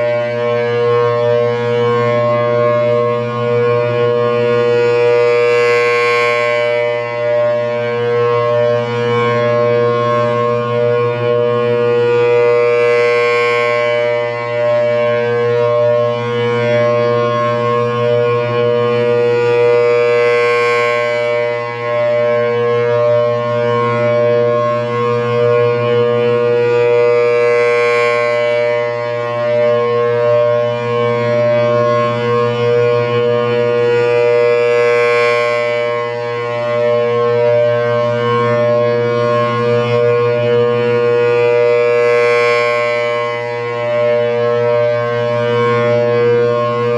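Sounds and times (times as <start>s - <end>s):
rotating siren steady tone: 0.0s - 46.9s.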